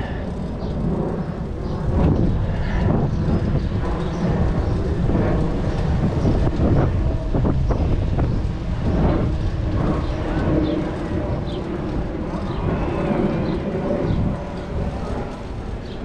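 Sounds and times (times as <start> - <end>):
low rumble of traffic: 0.0 - 16.0
wind buffeting microphone: 0.0 - 16.0.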